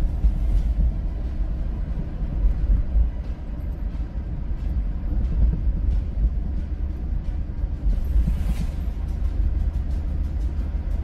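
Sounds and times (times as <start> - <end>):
vehicle driving on snowy road: 0.0 - 11.0.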